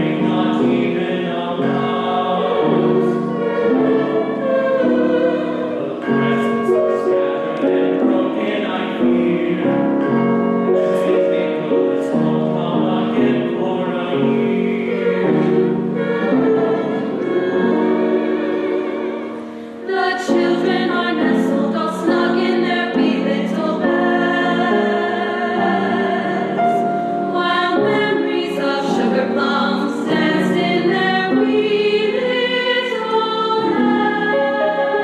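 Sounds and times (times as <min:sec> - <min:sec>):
choir singing a carol: 0:00.0 - 0:35.0.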